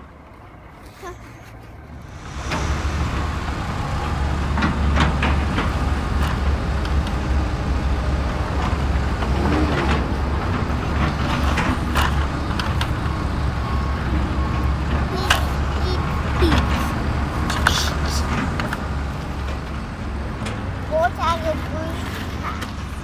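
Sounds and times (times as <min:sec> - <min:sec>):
wind buffeting microphone: 0:01.9 - 0:21.6.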